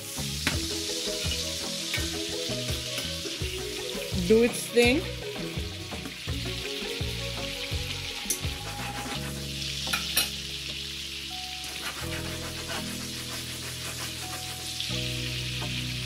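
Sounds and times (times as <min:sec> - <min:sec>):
fish sizzling in a skillet: 0:00.0 - 0:16.0.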